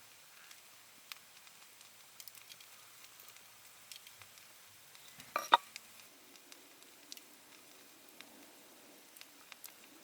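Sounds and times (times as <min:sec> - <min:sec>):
campfire crackling and popping: 0:00.0 - 0:10.0
low hiss: 0:00.0 - 0:10.0.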